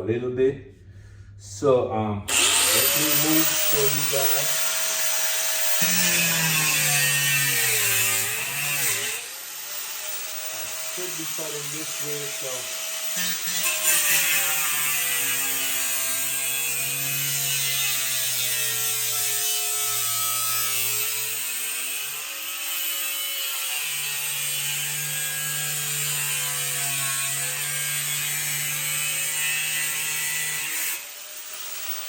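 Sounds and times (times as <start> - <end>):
power saw cutting through door: 2.3 - 32.0.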